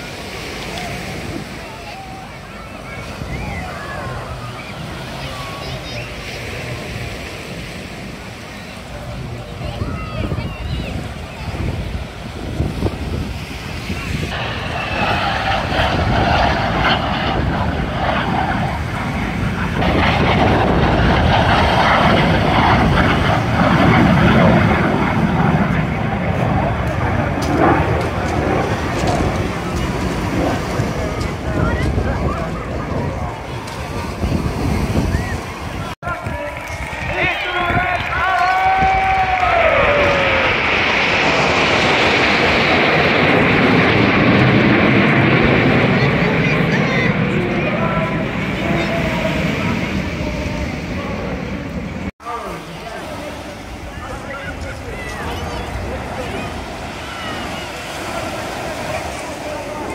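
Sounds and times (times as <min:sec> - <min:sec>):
jet aircraft flying past: 0:00.0 - 0:59.9.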